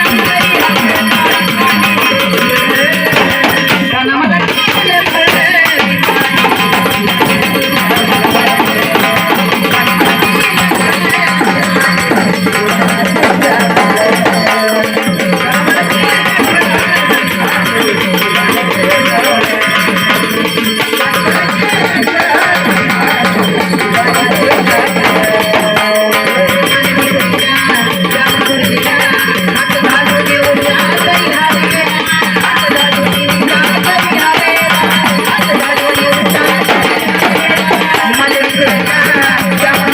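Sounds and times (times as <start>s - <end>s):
hand drum percussion: 0.0s - 39.9s.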